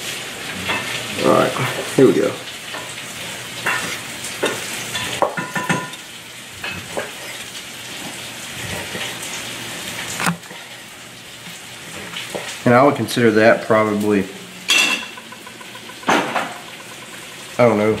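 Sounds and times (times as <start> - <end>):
steaks sizzling in a pan: 0.0 - 18.0.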